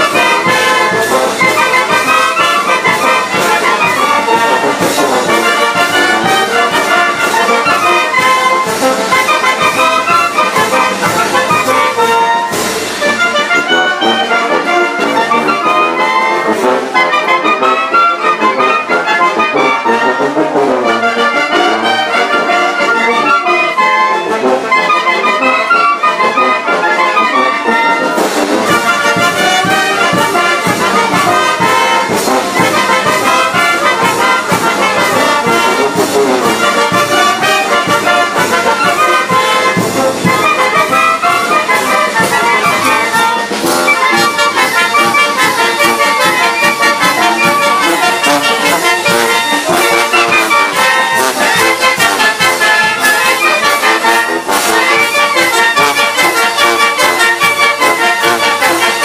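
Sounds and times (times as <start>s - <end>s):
brass band playing dance tune: 0.0s - 59.0s.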